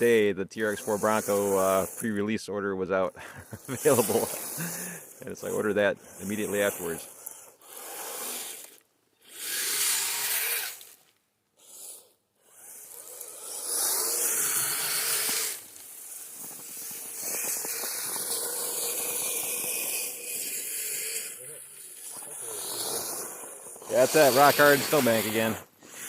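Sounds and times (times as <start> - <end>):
toy tracks churning through snow: 0.0 - 2.4, 3.1 - 26.0.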